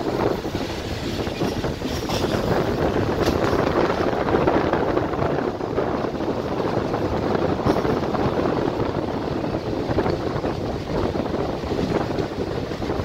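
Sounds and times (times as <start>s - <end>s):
train wheels rumbling: 0.0s - 13.0s
wind on microphone: 0.0s - 13.0s.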